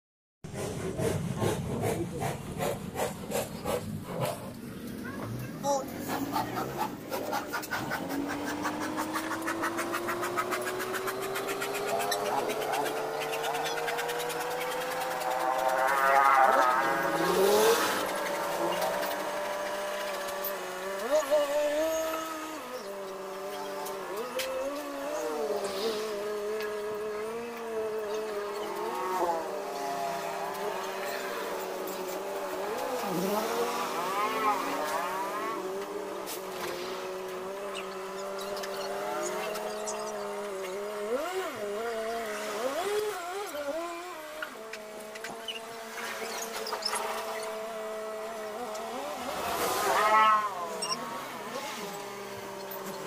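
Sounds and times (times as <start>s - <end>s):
engine running: 0.5s - 53.0s
small motor ticking and humming: 5.6s - 53.0s.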